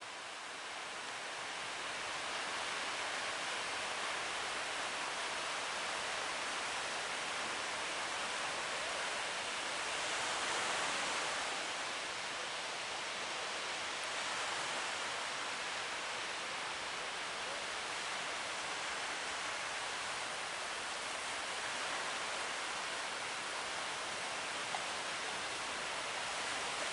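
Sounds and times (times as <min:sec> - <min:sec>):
breaking sea waves: 0:02.2 - 0:12.6, 0:13.2 - 0:26.9.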